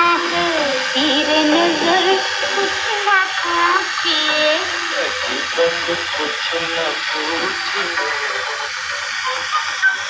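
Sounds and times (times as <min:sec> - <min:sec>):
person singing wavering melody: 0:00.0 - 0:08.7
film song on small radio speaker: 0:00.0 - 0:10.0.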